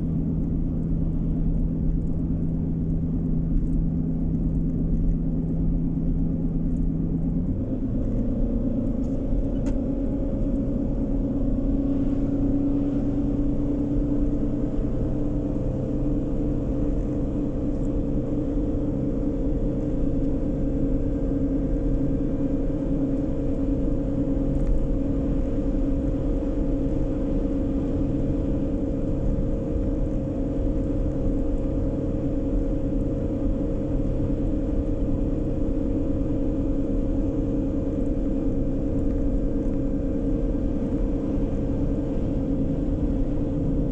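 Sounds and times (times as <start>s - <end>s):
car engine and tyre rumble: 0.0s - 43.9s.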